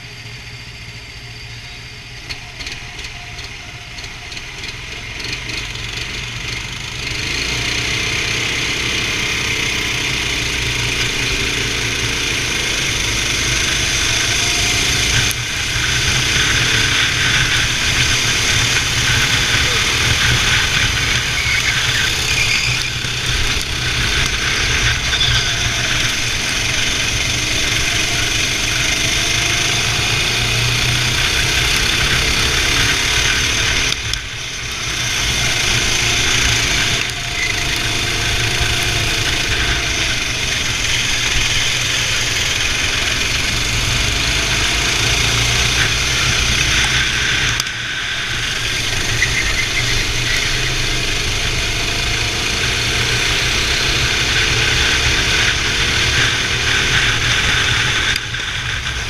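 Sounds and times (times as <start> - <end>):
kart engines running: 0.0 - 59.0.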